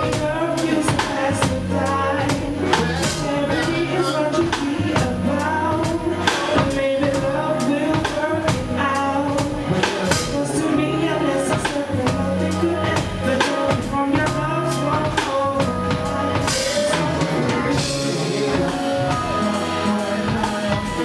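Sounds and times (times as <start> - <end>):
drum kit beat: 0.0 - 21.0
live soul band: 0.0 - 21.0.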